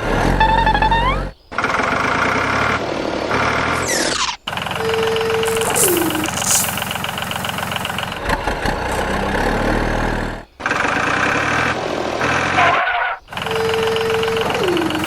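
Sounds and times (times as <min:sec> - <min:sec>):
engine running: 0:01.0 - 0:12.6, 0:13.3 - 0:15.0.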